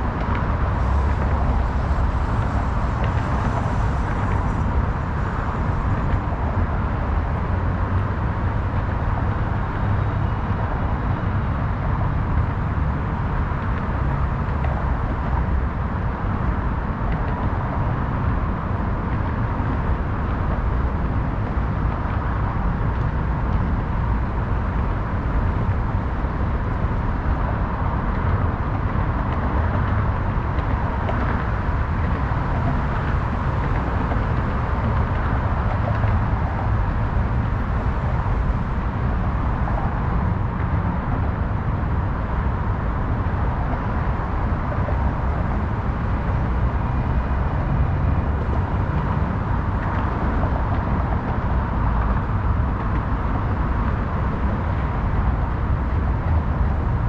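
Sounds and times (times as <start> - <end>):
low rumble of traffic: 0.0 - 57.0.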